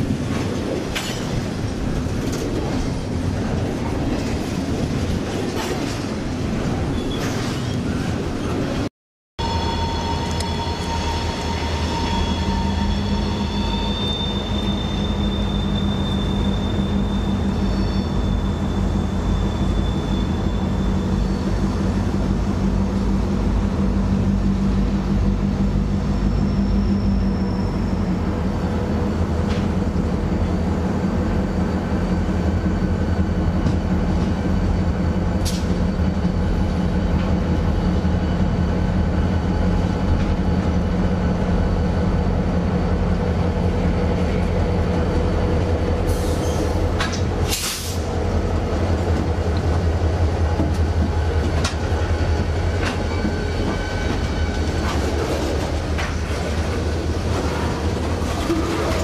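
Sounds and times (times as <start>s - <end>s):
diesel locomotive engines droning: 0.0s - 59.0s.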